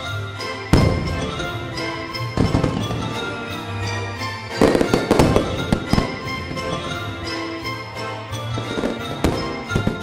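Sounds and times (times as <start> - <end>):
background music: 0.0 - 10.0
fireworks bangs and crackles: 0.1 - 10.0.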